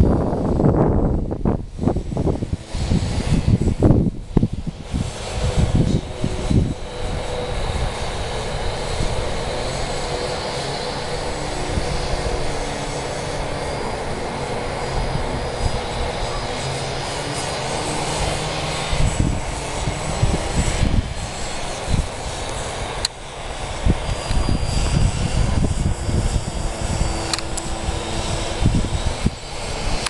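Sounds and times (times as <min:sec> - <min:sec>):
model plane motor whine: 0:00.0 - 0:30.0
wind buffeting microphone: 0:00.0 - 0:30.0.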